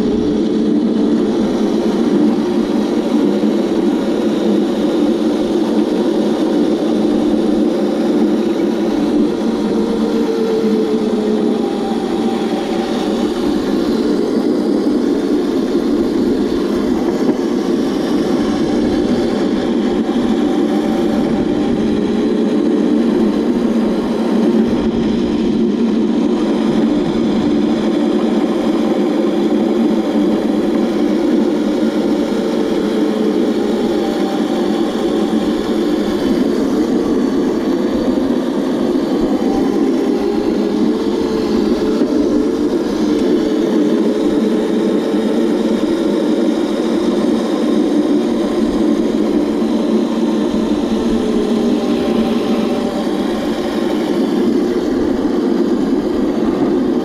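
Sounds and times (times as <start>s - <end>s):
electric kart rolling on asphalt: 0.0s - 57.0s
electric motor whine: 0.0s - 57.0s.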